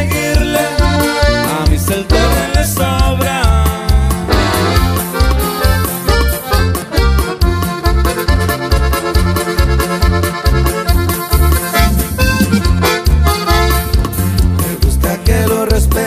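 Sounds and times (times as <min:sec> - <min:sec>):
accordion melody: 0:00.0 - 0:15.8
pulsing bass line: 0:00.0 - 0:16.0.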